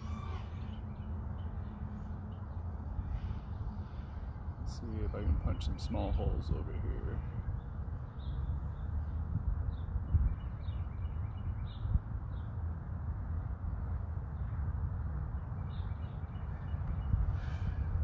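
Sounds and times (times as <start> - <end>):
birds chirping: 0.0 - 12.7, 14.3 - 18.0
wind rumble on microphone: 0.0 - 18.0.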